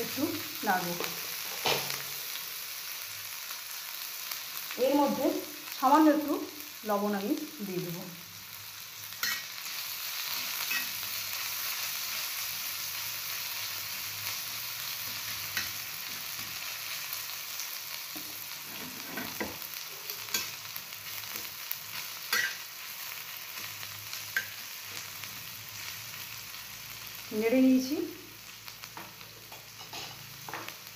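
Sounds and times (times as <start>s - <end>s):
vegetables sizzling in oil: 0.0s - 30.9s.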